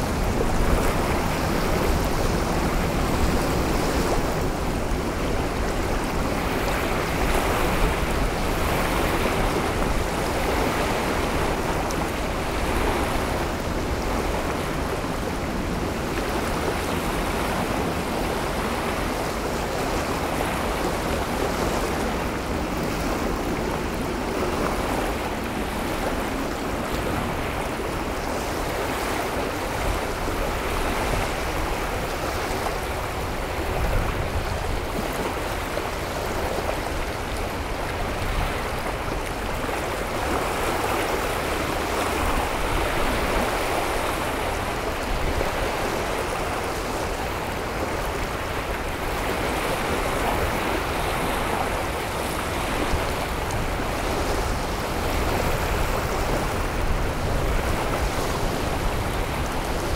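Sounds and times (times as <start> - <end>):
heavy wind: 0.0 - 59.9
wind rumble on microphone: 0.0 - 59.9.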